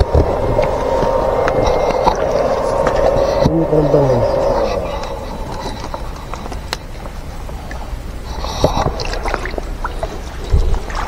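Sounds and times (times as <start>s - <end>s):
stream water gurgling and sloshing: 0.0s - 11.0s.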